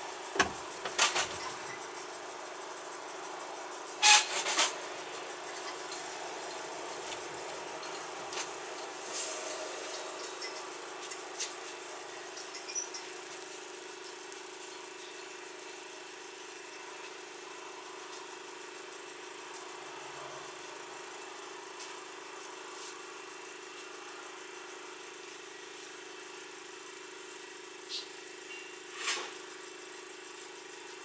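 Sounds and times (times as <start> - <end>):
idling motor hum: 0.0 - 31.0.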